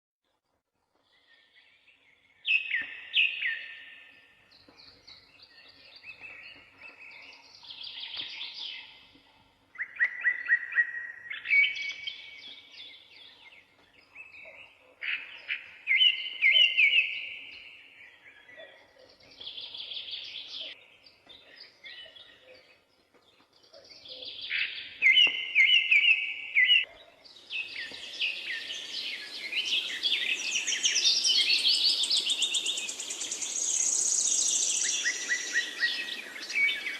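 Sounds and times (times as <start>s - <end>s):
songbirds singing trills: 1.0s - 36.9s.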